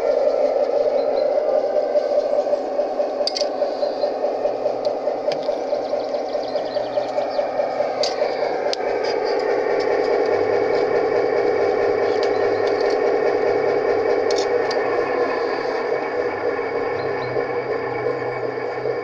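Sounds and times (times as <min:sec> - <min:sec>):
diesel engine sound through loudspeaker: 0:00.0 - 0:19.0.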